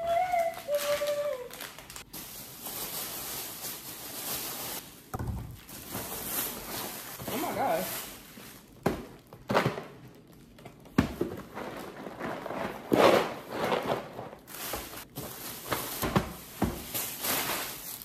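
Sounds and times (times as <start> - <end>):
household items being handled: 0.0 - 18.0.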